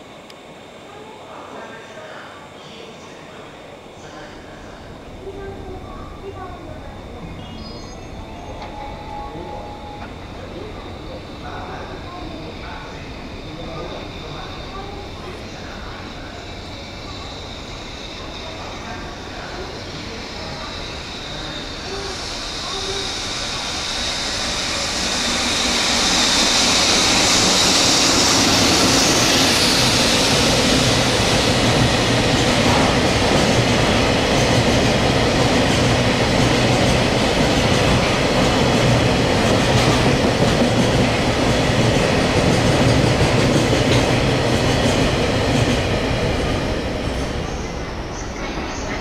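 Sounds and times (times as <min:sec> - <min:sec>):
locomotive hiss: 0:00.7 - 0:49.0
train wheels on rails: 0:04.2 - 0:49.0.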